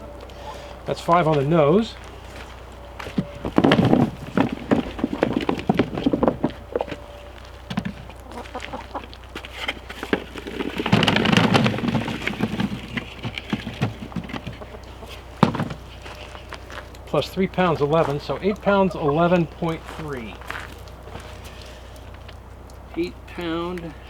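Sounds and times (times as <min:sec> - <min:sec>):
potatoes clattering: 0:01.1 - 0:22.2
potatoes knocking and rustling: 0:01.1 - 0:23.4.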